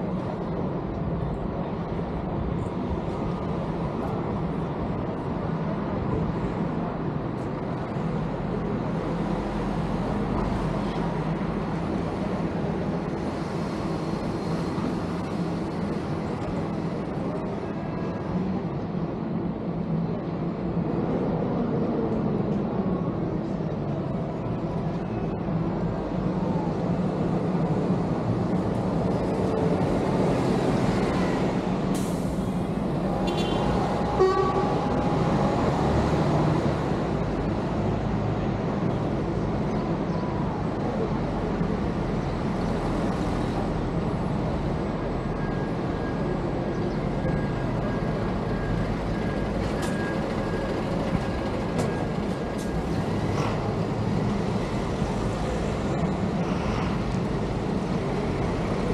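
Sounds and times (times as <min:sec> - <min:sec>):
road vehicle noise: 0:00.0 - 0:58.9.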